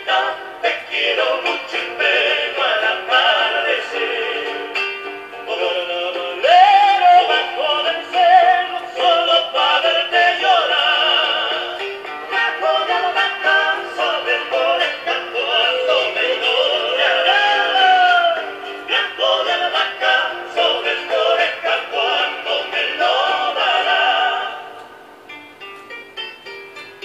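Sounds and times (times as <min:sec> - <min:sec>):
song with sung vocal melody: 0:00.0 - 0:25.2.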